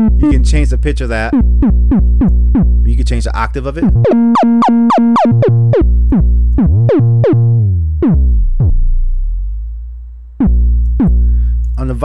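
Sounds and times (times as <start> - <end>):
synth bass notes with pitch sweep: 0.0 - 12.0.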